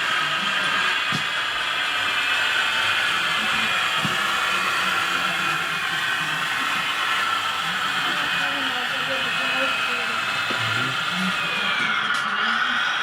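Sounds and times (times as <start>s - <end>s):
small electric motors whining: 0.0s - 13.0s.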